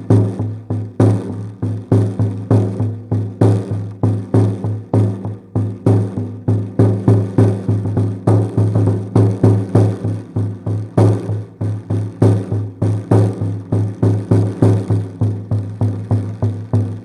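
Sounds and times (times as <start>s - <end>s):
drum struck with deep ring: 0.0s - 17.0s.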